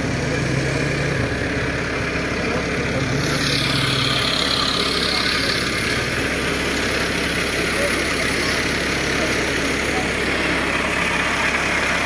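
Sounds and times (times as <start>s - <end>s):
diesel tractor engines idling: 0.0s - 12.0s.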